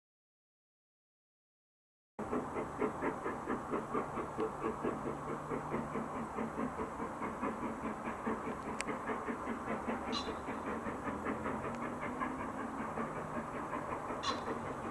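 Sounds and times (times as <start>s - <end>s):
steam locomotive exhaust beats: 2.2s - 14.9s.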